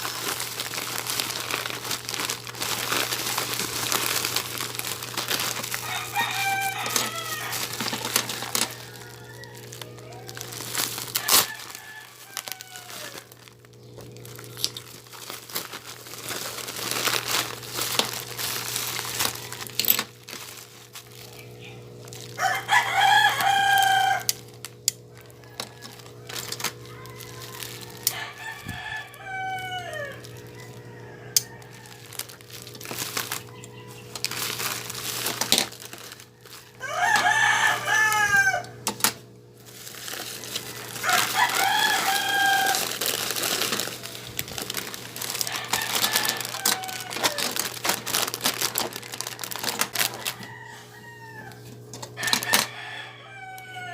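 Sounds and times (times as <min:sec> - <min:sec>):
rooster crowing: 0:00.0 - 0:15.2, 0:15.9 - 0:38.8, 0:39.6 - 0:53.9
steady low hum: 0:00.0 - 0:49.9
plastic packaging crinkling: 0:00.0 - 0:50.8, 0:51.8 - 0:53.0.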